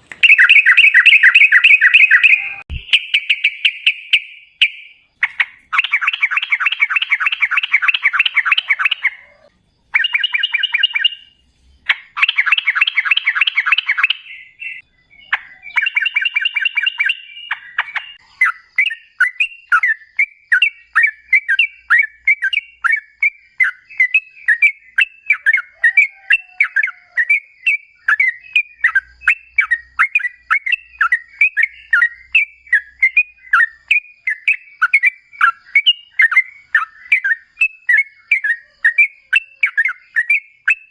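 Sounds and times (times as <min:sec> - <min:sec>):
bird singing bubbling chatter: 0:00.0 - 0:40.9.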